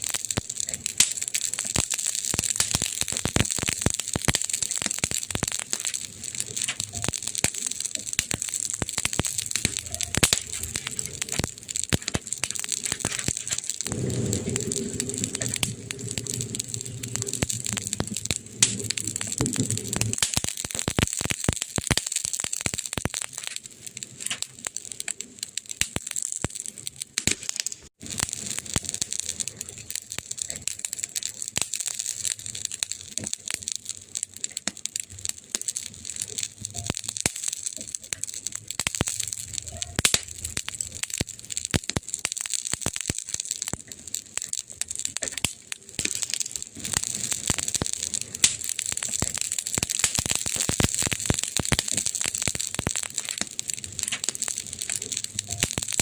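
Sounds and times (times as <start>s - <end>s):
steady fire hiss: 0.0s - 56.0s
wood fire crackling: 0.0s - 56.0s.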